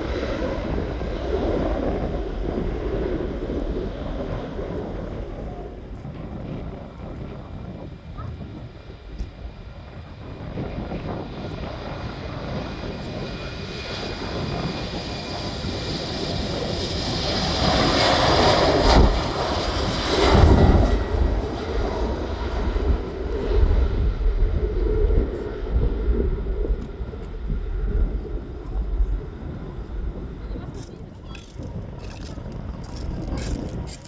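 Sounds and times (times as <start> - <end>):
jet airliner taking off: 0.0 - 34.0.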